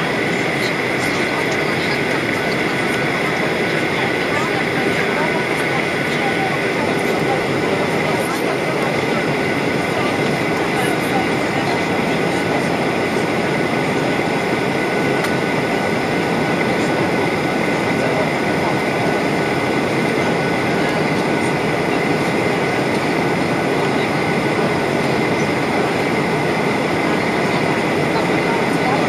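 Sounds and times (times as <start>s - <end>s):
faint steady whines: 0.0s - 29.0s
jet engine and airflow rush: 0.0s - 29.0s.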